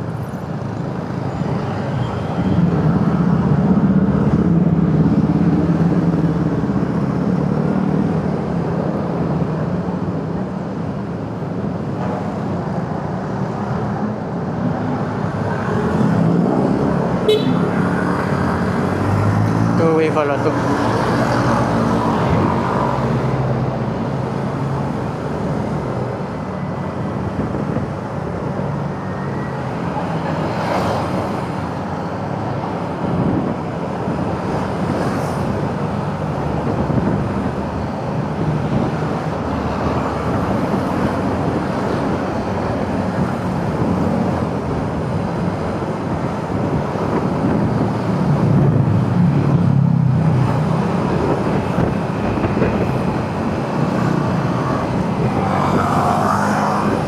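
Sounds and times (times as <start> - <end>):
passing traffic: 0.0 - 57.0
road and wind noise: 0.0 - 57.0.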